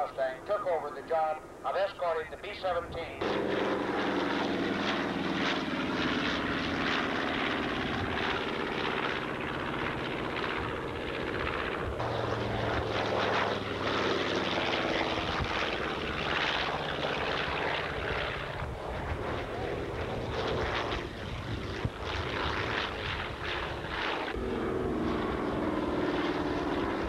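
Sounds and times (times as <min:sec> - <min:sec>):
aircraft piston engines droning: 0:00.0 - 0:27.0.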